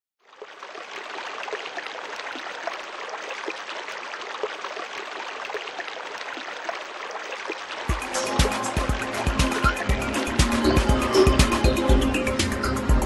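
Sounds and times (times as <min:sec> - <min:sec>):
running water trickling: 0:00.2 - 0:13.0.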